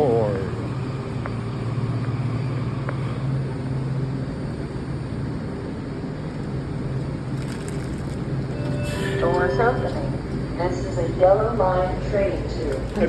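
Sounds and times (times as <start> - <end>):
rumbling background noise: 0.0 - 13.0
train low hum: 0.0 - 13.0.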